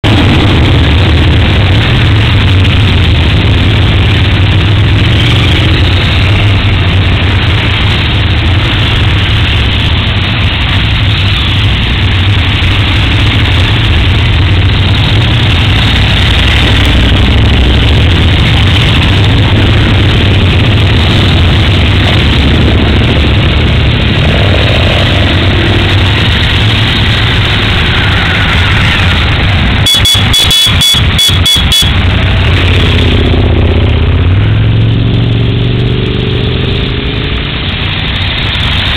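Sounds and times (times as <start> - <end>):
motorcycle engines at low revs: 0.0 - 38.9.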